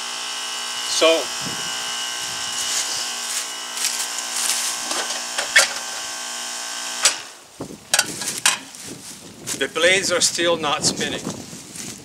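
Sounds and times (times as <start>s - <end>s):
electrical hum: 0.0s - 10.1s.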